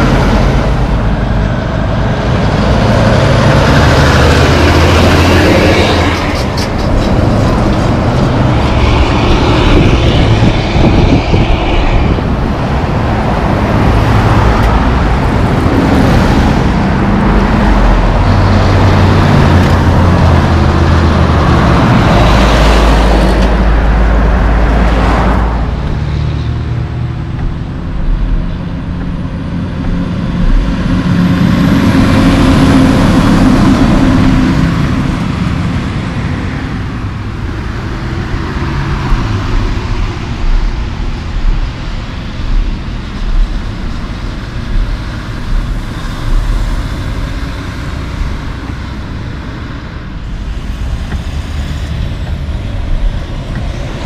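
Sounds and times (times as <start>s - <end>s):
car passing: 0.0s - 54.0s
highway traffic: 0.0s - 54.0s
trucks driving past: 0.0s - 54.0s.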